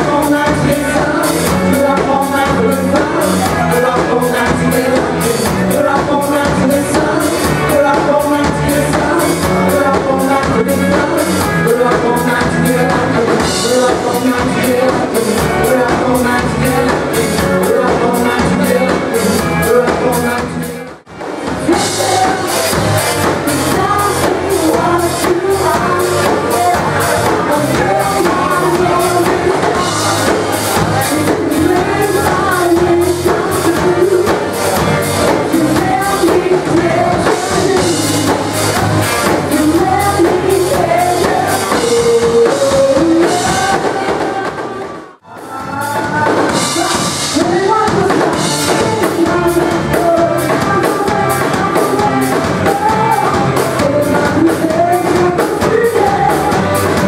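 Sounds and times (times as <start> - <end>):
live band playing rock: 0.0 - 57.0
person singing: 0.0 - 57.0.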